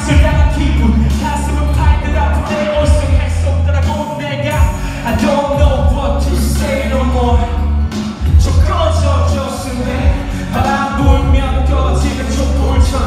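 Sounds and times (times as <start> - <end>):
heavy pulsing bass beat: 0.0 - 13.0
person rapping into microphone: 0.0 - 13.0.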